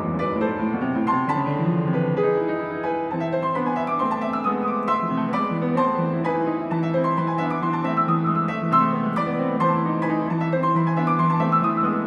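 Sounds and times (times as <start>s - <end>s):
solo piano playing: 0.0s - 12.0s.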